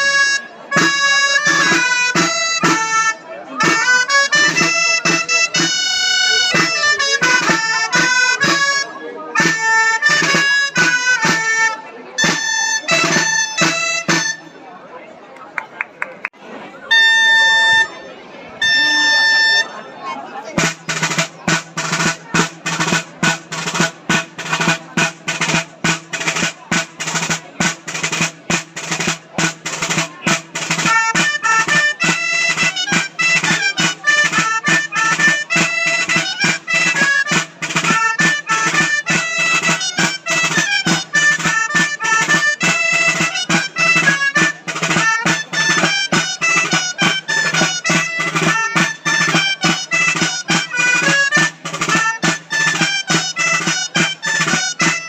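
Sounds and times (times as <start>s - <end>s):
drum beating steady rhythm: 0.0s - 14.6s, 16.9s - 55.0s
reed pipe melody: 0.0s - 14.9s, 16.8s - 55.0s.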